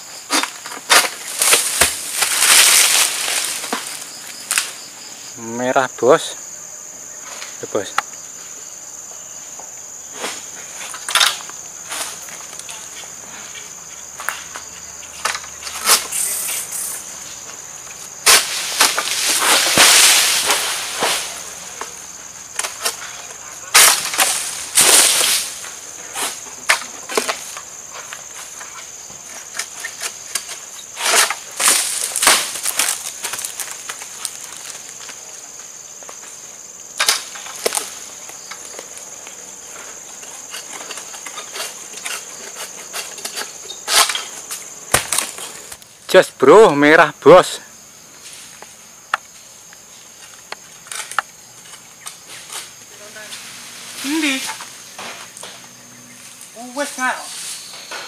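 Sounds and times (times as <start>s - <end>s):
fronds rustling through leaves: 0.0s - 5.4s, 9.8s - 46.7s, 47.3s - 58.0s
high insect drone: 0.0s - 58.0s
sickle cracking and scraping: 0.3s - 4.8s, 10.2s - 36.4s, 37.0s - 45.9s, 48.2s - 58.0s.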